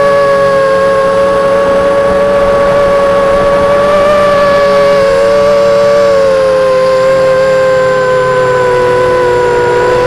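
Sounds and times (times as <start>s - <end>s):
drone motors and propellers whining: 0.0s - 10.0s.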